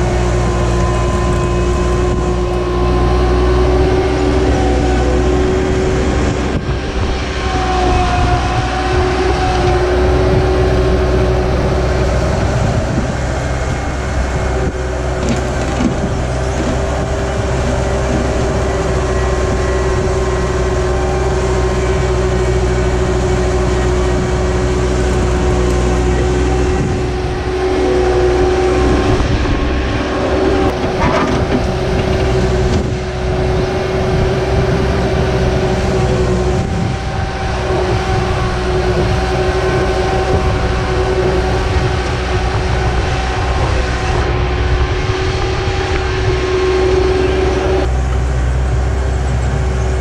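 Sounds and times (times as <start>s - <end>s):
skid steer engine drone: 0.0s - 50.0s.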